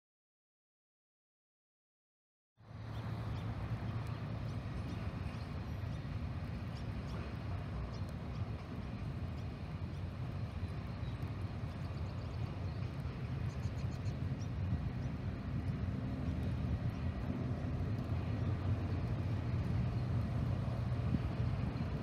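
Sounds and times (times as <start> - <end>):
diesel locomotive engine drone: 2.6 - 22.0.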